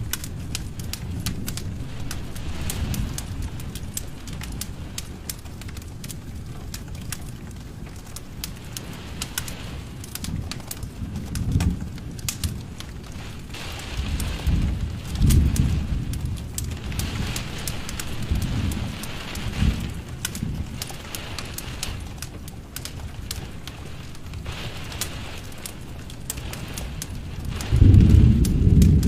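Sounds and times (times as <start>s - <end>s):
low flame rustle: 0.0s - 29.0s
wood fire crackling and popping: 0.0s - 29.0s.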